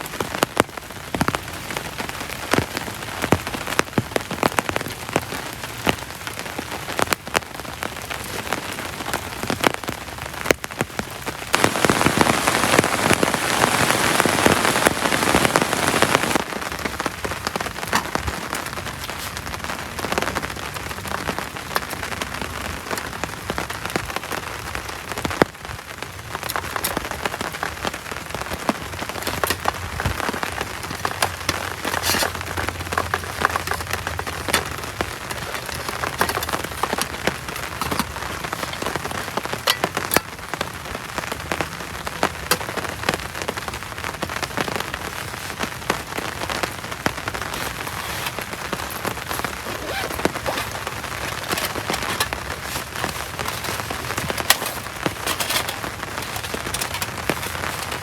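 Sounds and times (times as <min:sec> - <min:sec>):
heavy rain with ticking drops: 0:00.0 - 0:58.0.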